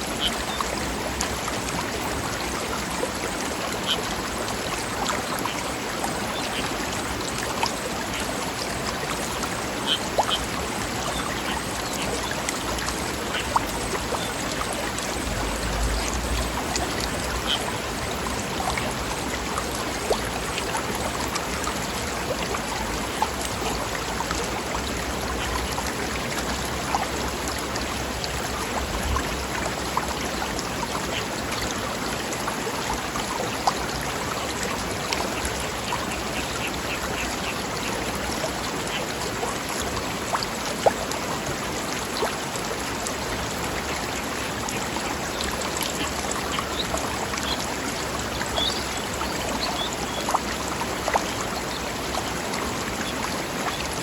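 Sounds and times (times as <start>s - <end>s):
small water splashes: 0.0s - 54.0s
stream flowing over rocks: 0.0s - 54.0s.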